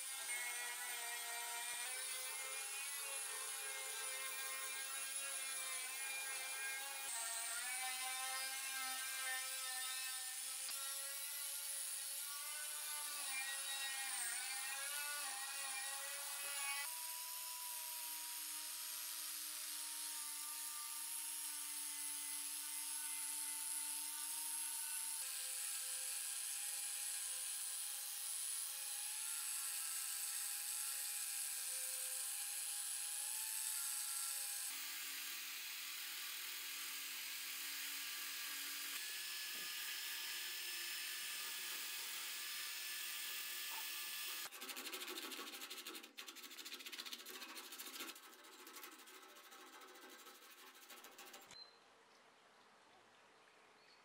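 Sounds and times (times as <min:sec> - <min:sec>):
angle grinder whining on steel: 0:00.0 - 0:44.5.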